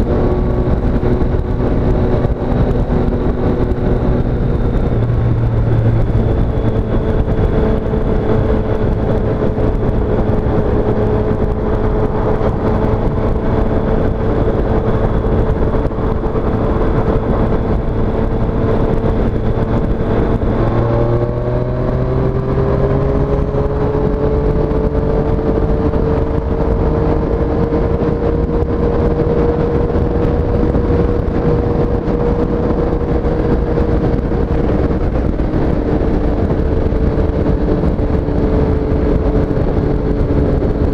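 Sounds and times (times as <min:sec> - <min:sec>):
motorcycle engine running: 0:00.0 - 0:40.9
rush of noise: 0:00.0 - 0:40.9.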